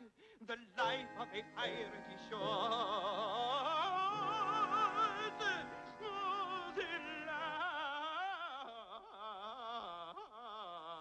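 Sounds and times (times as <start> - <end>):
man singing with wide vibrato: 0.0 - 11.0.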